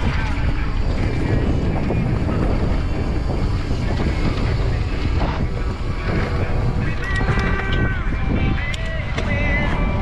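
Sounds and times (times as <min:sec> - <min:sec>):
bike rolling over dirt trail: 0:00.0 - 0:10.0
wind buffeting microphone: 0:00.0 - 0:10.0.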